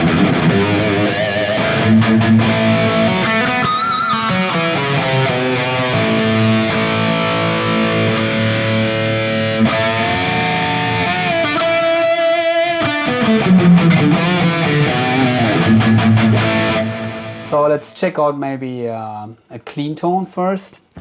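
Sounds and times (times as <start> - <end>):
electric guitar notes with vibrato: 0.0 - 17.5.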